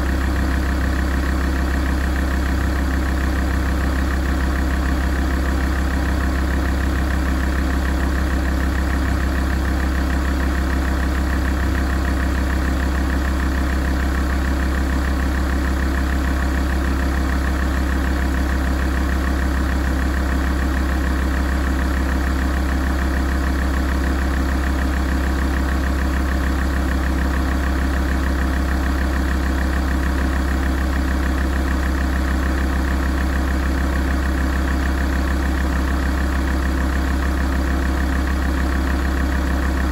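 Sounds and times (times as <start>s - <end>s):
diesel car engine idling: 0.0s - 39.9s.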